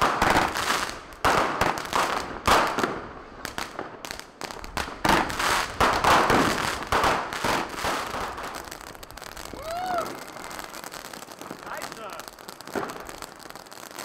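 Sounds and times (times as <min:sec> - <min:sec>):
firecrackers banging and crackling: 0:00.0 - 0:14.0.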